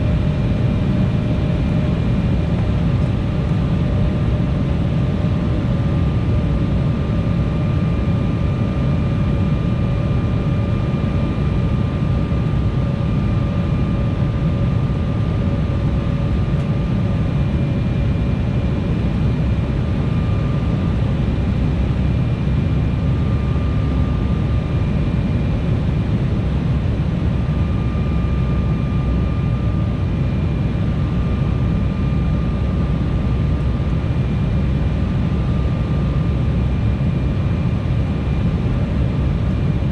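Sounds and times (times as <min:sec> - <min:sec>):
faint engine whine: 0:00.0 - 0:39.9
jet cabin air and engine rush: 0:00.0 - 0:39.9.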